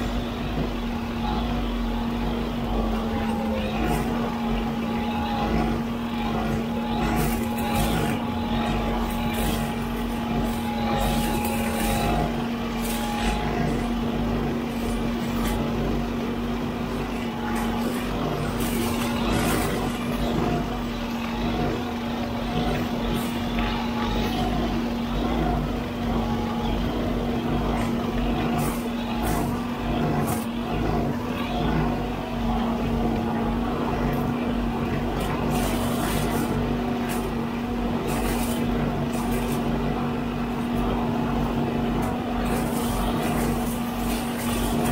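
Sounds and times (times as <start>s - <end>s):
backhoe loader engine hum: 0.0s - 44.9s.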